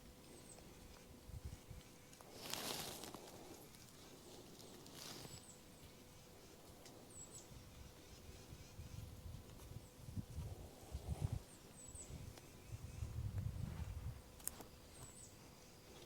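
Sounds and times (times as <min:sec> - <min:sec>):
faint rustle: 0:00.2 - 0:16.0.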